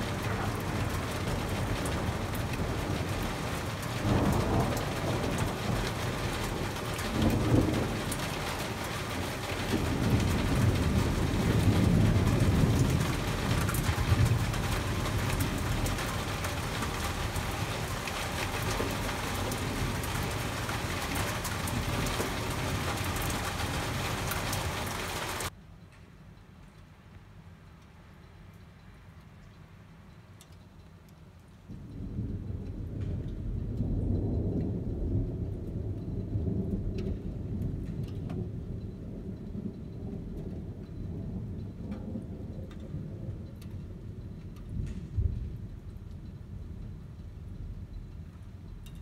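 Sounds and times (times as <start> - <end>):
thunder rumbling: 0.0 - 25.5, 31.7 - 48.8
steady rain pattering: 0.0 - 49.0.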